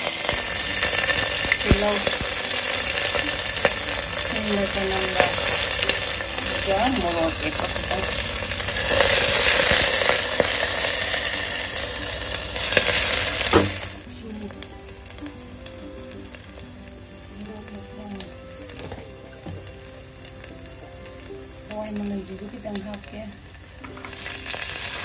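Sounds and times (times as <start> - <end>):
onion sizzling in hot oil: 0.0 - 25.0.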